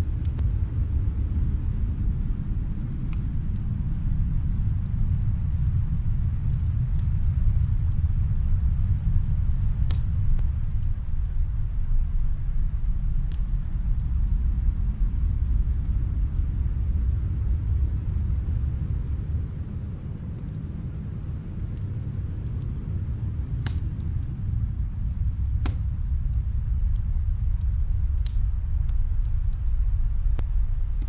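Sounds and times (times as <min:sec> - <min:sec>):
steady low rumble: 0:00.0 - 0:31.0
wood fire crackling: 0:00.0 - 0:31.0
fire pops: 0:00.1 - 0:01.6, 0:02.8 - 0:31.0.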